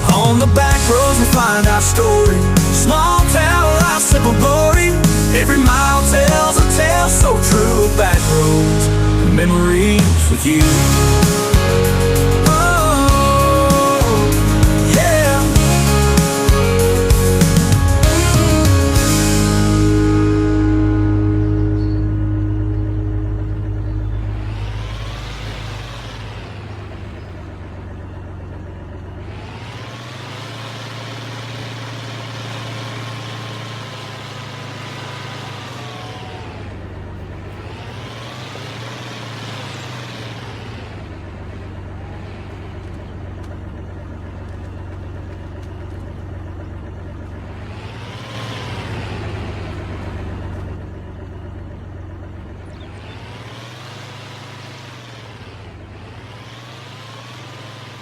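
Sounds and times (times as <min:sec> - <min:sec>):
large engine running: 0:00.0 - 0:58.0.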